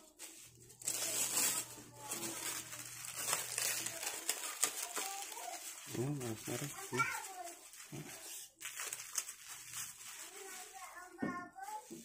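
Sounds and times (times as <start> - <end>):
cling wrap crinkling: 0.0 - 12.0.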